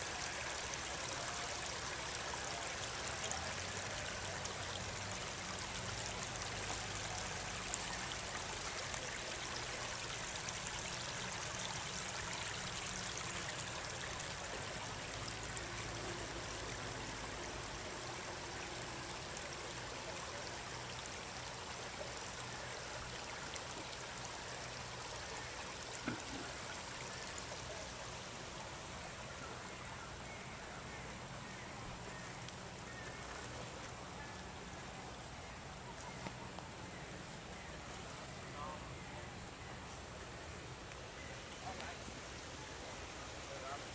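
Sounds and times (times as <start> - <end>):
stream trickling over stones: 0.0 - 43.9.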